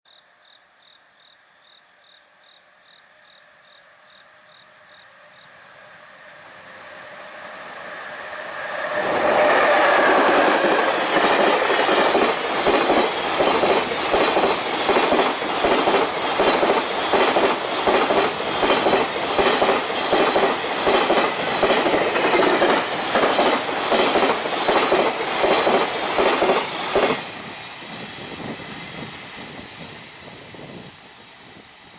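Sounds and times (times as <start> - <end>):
freight train passing: 2.8 - 31.9.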